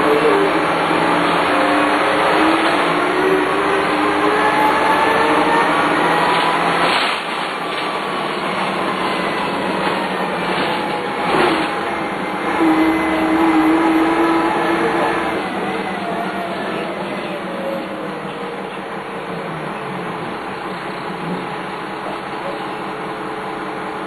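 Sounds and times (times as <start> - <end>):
bus diesel engine running: 0.0 - 24.0
gearbox whine: 0.0 - 24.0.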